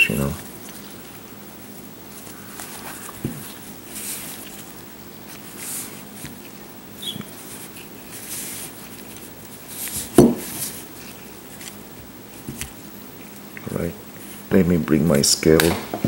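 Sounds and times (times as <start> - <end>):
latex glove rustling: 0.0 - 14.5.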